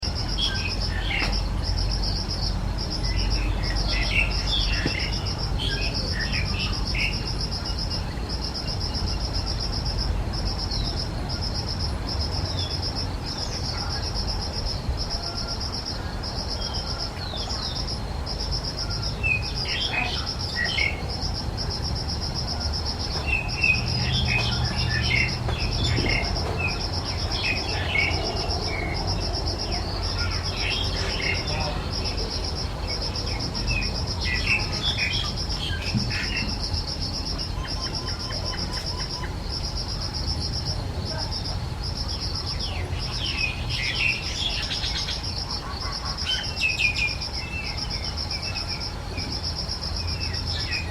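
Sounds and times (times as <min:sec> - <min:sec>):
insect trilling: 0:00.0 - 0:50.9
small birds chirping: 0:00.0 - 0:50.9.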